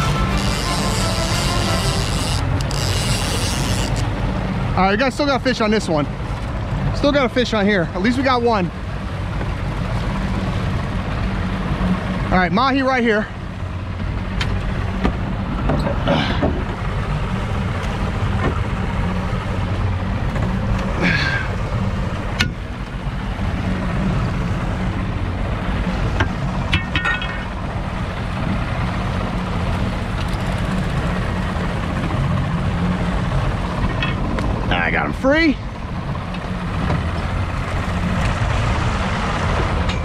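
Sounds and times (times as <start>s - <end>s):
outboard motor running: 0.0s - 40.0s
rushing water: 0.0s - 40.0s
wind: 0.0s - 40.0s.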